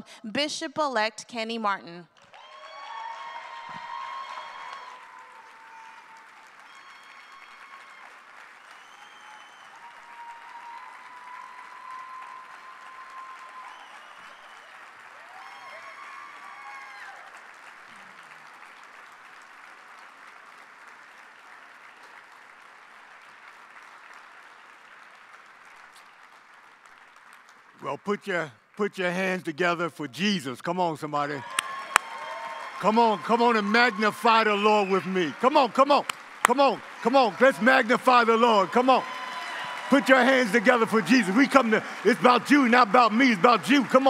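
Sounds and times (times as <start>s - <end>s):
audience applauding: 2.2s - 29.2s, 31.1s - 44.0s.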